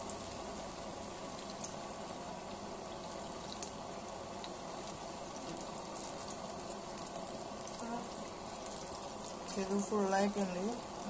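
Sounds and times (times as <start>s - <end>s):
deep-frying sizzle with pops: 0.0s - 11.0s.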